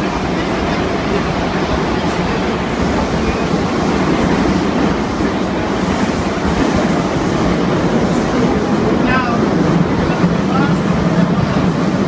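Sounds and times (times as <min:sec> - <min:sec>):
subway train running: 0:00.0 - 0:12.0.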